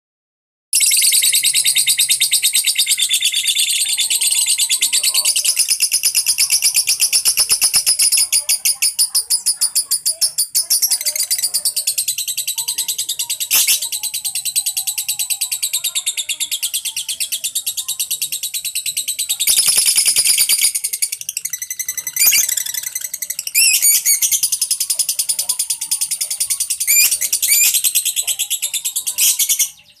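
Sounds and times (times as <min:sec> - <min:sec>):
lovebirds chattering trill: 0:00.8 - 0:30.0.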